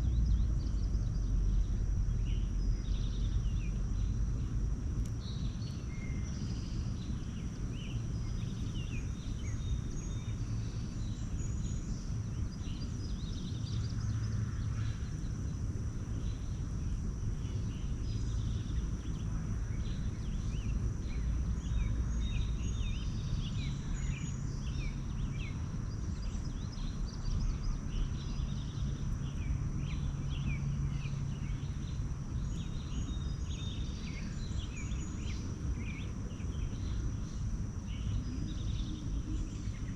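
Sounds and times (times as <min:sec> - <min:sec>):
low rumble: 0:00.0 - 0:39.9
small birds chirping: 0:00.1 - 0:14.4, 0:15.0 - 0:39.9.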